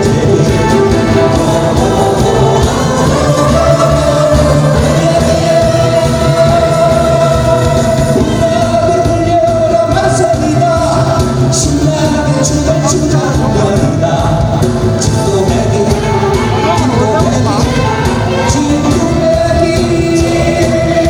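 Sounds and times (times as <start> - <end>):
musical accompaniment: 0.0 - 21.0
person singing live: 0.0 - 21.0.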